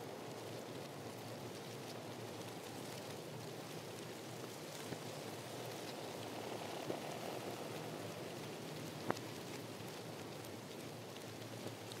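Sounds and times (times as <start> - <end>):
faint ticks: 0.3 - 12.0.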